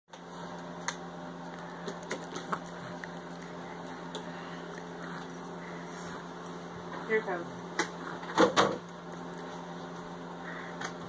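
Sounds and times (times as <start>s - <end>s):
steady background hum: 0.1s - 11.0s.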